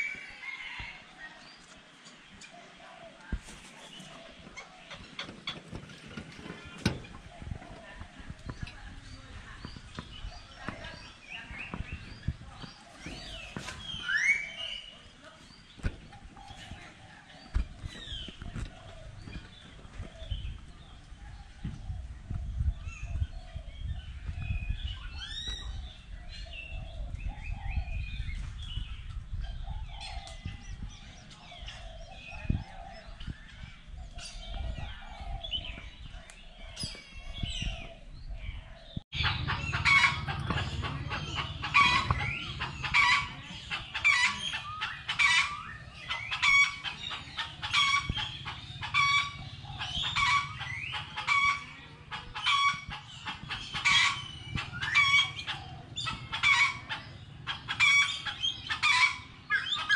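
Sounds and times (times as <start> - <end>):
chickens clucking and crowing: 0.0 - 59.9.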